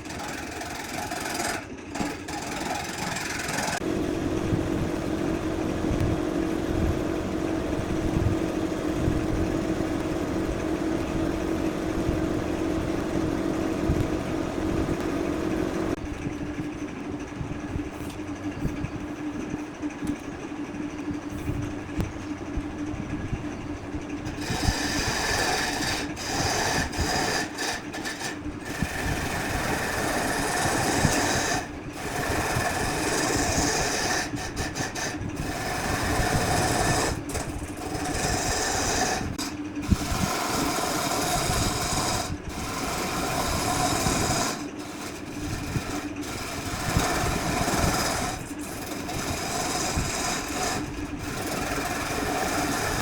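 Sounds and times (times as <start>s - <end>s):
electric power tool working wood: 0.0s - 16.0s, 24.3s - 53.0s.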